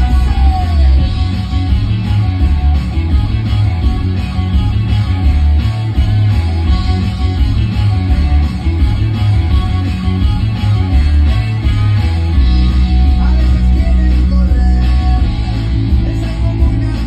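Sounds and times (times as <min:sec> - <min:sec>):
heavy bass: 0:00.0 - 0:17.0
loud rock music with guitars: 0:00.0 - 0:17.0.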